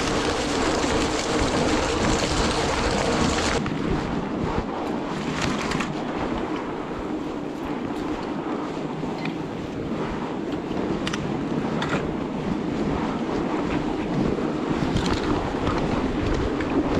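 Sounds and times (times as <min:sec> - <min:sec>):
bike rolling over snow: 0:00.0 - 0:16.9
wind on microphone: 0:00.0 - 0:16.9.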